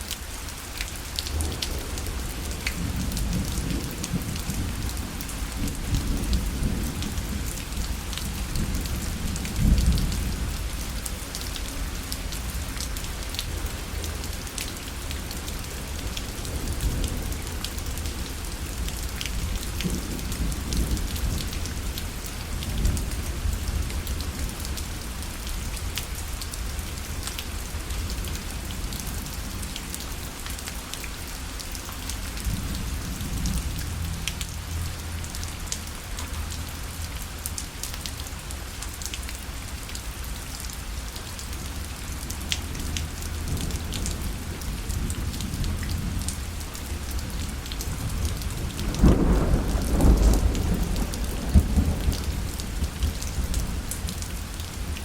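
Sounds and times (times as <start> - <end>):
rain on a parasol: 0.0 - 55.0.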